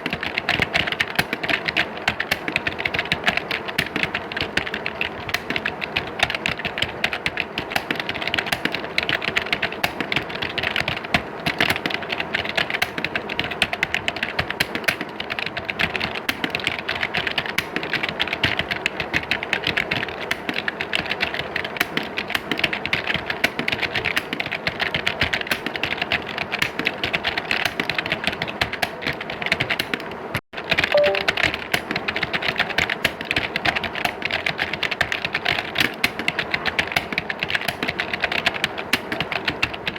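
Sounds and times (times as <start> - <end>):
many keyboards typing: 0.0 - 30.1, 30.8 - 39.9.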